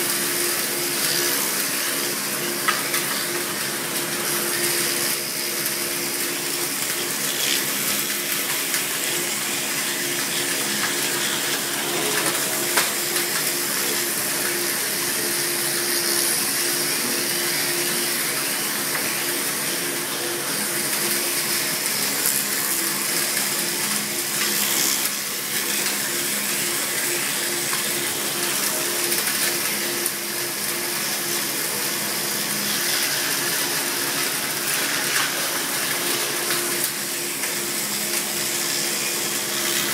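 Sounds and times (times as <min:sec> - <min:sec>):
woodworking machine whirring: 0:00.0 - 0:39.9.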